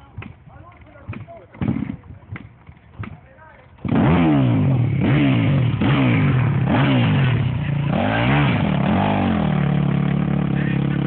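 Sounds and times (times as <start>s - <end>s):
dirt bike engine revving: 1.1s - 3.1s, 3.8s - 11.0s.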